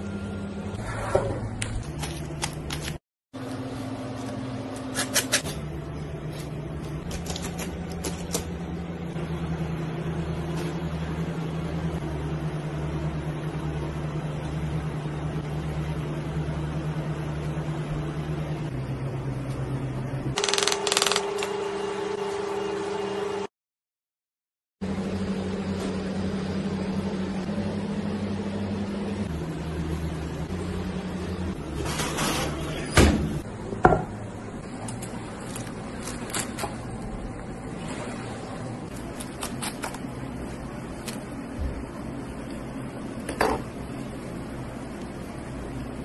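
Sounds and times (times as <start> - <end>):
low mechanical hum: 0.0 - 23.5, 24.8 - 46.0.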